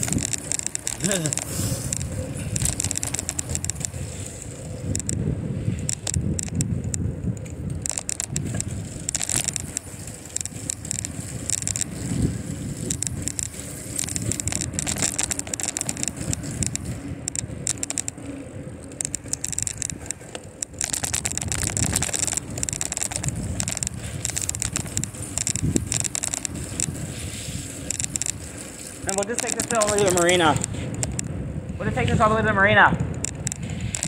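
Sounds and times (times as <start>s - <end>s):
bicycle tyre rumble: 0.0s - 34.0s
bike crackling and rattling: 0.0s - 34.0s
wind buffeting microphone: 0.0s - 34.0s.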